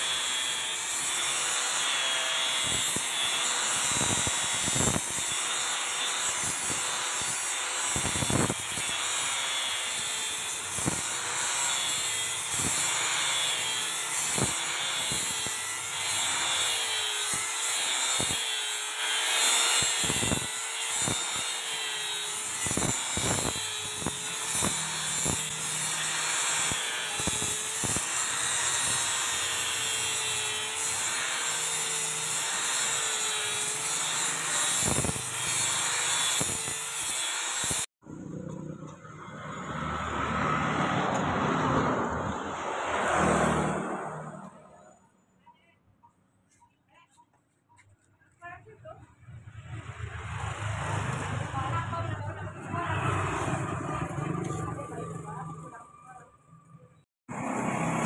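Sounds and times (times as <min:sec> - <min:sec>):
grinding wheel on stone tile: 0:00.0 - 0:44.9, 0:47.8 - 0:58.0.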